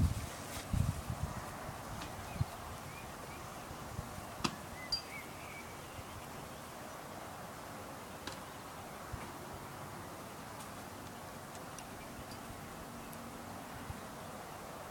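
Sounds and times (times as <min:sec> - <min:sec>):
outdoor background hiss: 0:00.0 - 0:14.9.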